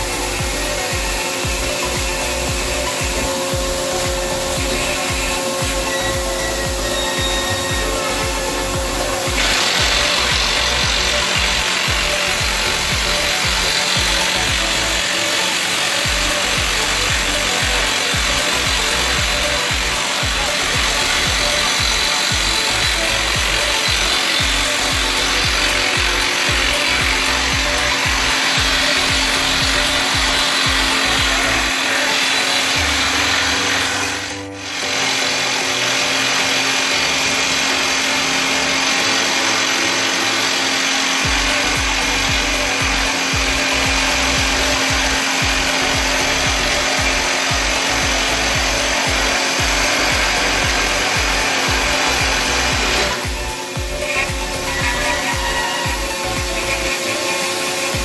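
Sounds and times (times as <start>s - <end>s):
constant machine hum: 0.0s - 58.0s
rock drill percussive hammering: 0.0s - 58.0s.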